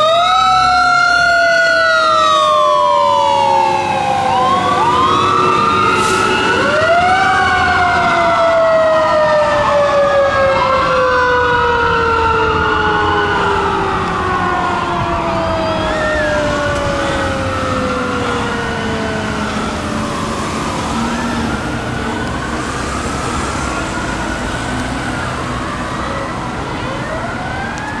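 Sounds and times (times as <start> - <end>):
electronic wail siren: 0.0 - 28.0
mechanical siren winding down: 0.0 - 28.0
road and engine noise: 0.0 - 28.0.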